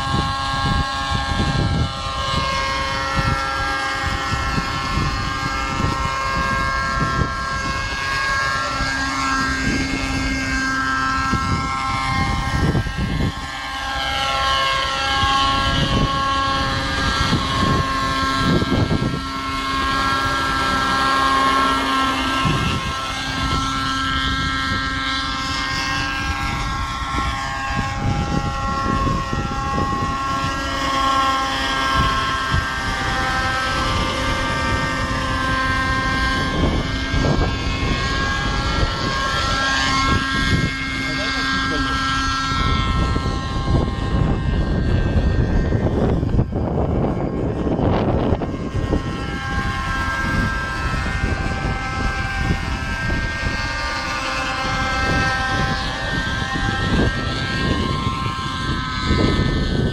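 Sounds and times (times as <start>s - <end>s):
model helicopter engine whine: 0.0s - 59.9s
wind gusts on microphone: 0.0s - 59.9s.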